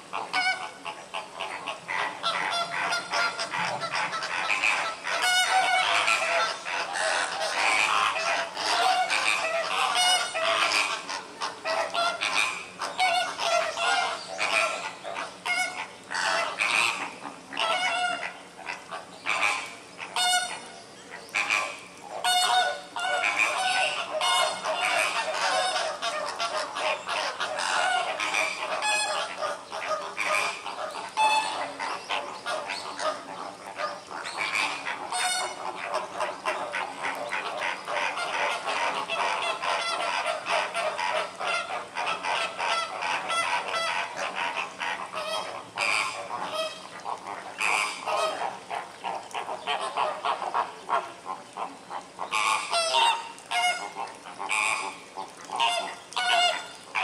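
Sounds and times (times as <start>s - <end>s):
flamingos calling: 0.0s - 57.0s.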